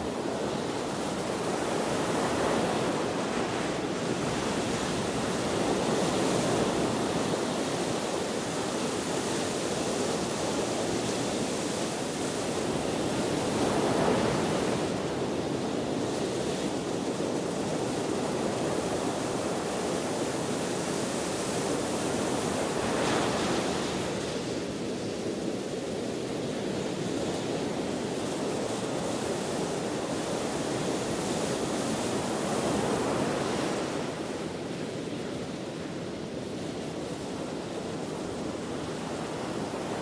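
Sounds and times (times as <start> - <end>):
wind: 0.0 - 40.0.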